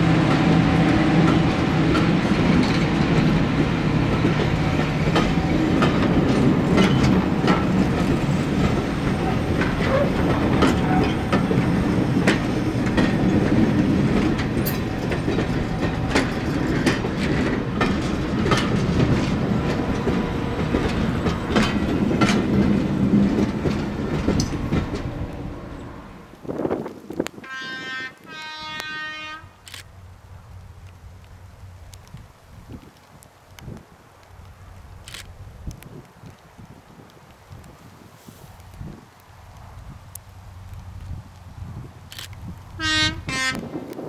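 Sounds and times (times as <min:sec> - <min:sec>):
train wheels rumbling on rail: 0:00.0 - 0:44.0
wheels clicking over rail joints: 0:00.2 - 0:37.8.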